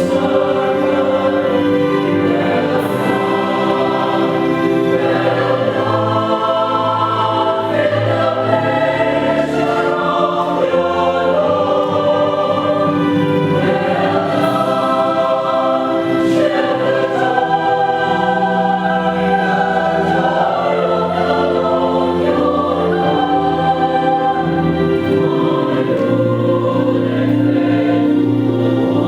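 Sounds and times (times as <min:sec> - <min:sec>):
choir singing in harmony: 0:00.0 - 0:29.0.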